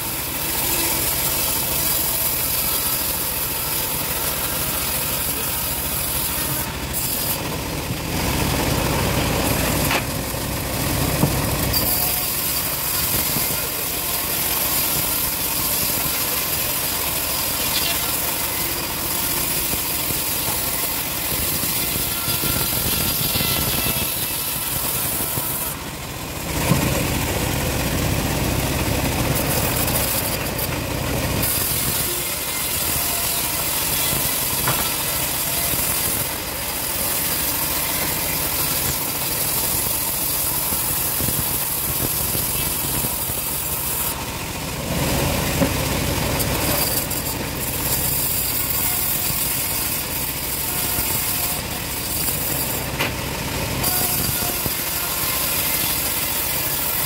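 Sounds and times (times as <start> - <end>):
bandsaw running: 0.0 - 57.0
engine rumble: 0.0 - 57.0.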